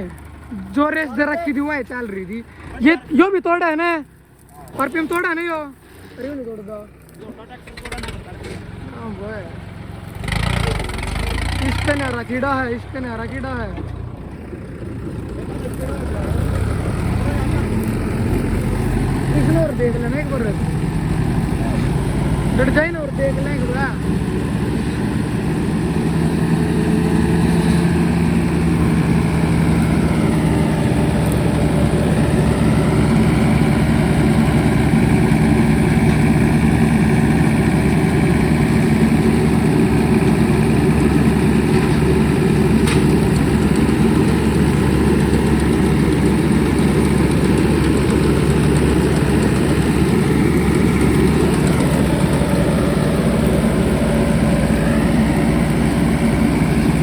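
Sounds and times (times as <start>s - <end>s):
tractor engine running under load: 0.0s - 57.0s
reaper machinery: 4.7s - 57.0s.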